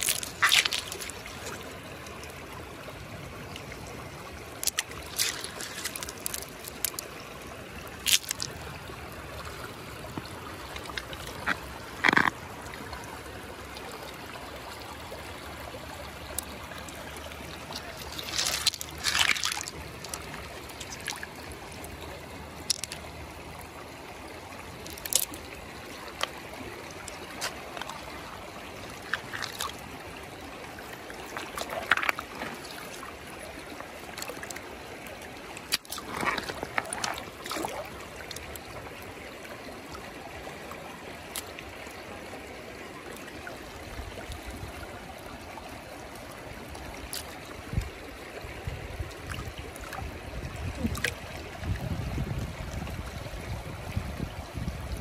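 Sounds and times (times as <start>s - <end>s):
river water trickling: 0.0s - 55.0s.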